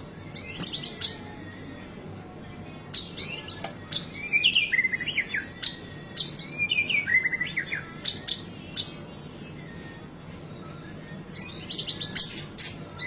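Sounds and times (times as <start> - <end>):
songbird singing whistled notes: 0.0 - 1.7, 2.8 - 13.0.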